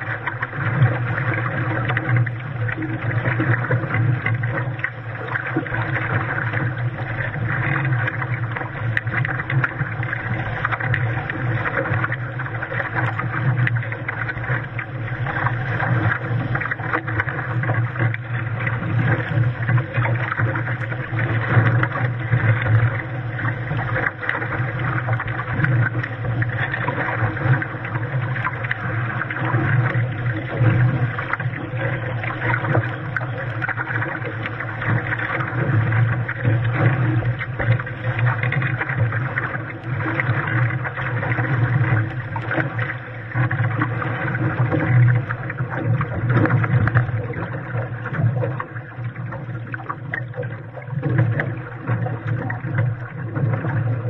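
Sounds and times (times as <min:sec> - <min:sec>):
water splashing against hull: 0:00.0 - 0:54.0.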